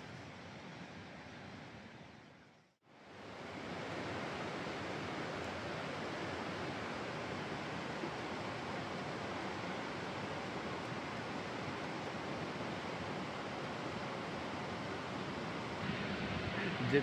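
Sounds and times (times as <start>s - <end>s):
stream water rushing: 2.9s - 17.0s.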